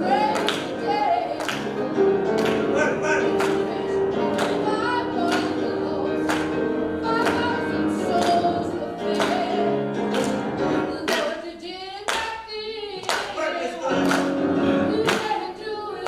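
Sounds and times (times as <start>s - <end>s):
choir singing gospel song: 0.0s - 16.0s.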